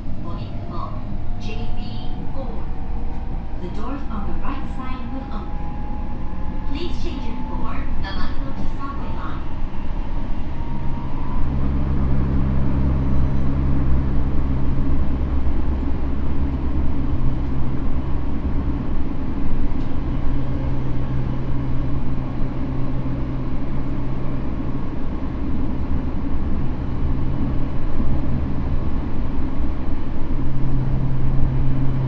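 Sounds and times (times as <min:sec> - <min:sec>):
constant low hum: 0:00.0 - 0:32.0
train wheels rumbling on rail: 0:00.0 - 0:32.0.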